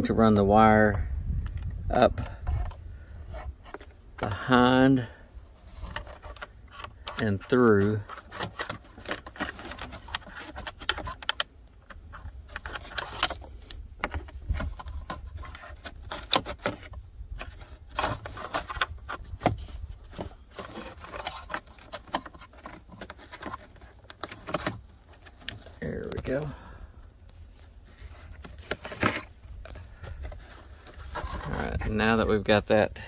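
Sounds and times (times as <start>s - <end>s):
wire scraping behind plastic panel: 1.6s - 4.8s, 5.4s - 26.5s, 27.3s - 32.4s.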